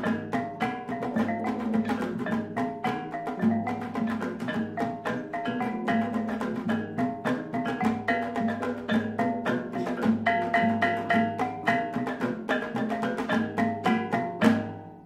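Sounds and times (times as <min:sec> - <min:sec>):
wooden drum beat: 0:00.0 - 0:15.0.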